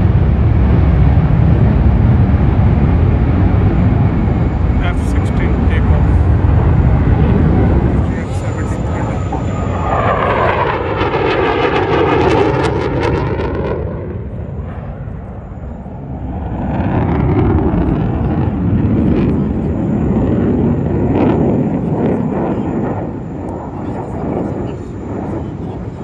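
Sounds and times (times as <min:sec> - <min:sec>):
jet aircraft passing overhead: 0:00.0 - 0:26.0.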